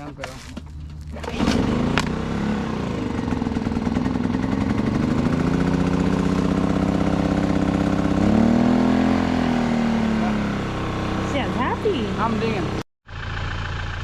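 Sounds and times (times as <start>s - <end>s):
portable generator engine running: 0.0s - 14.0s.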